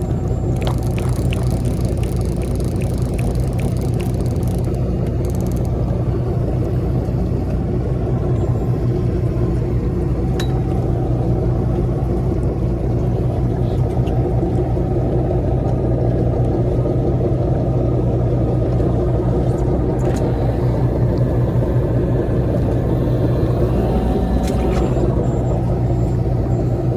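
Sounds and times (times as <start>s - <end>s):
boat engine rumbling: 0.0s - 26.9s.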